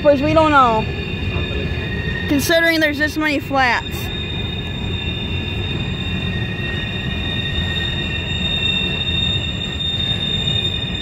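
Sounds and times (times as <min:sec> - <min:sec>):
train rumble: 0:00.0 - 0:11.0
train wheels squealing: 0:00.0 - 0:11.0.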